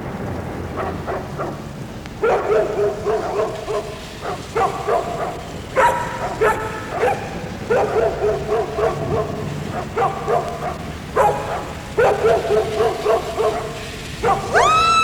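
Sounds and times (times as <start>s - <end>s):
dog whining and howling: 0.8s - 15.0s.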